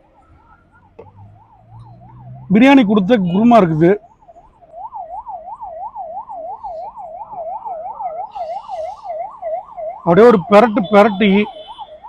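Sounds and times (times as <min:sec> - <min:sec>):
siren in fast yelp: 0:00.0 - 0:12.0.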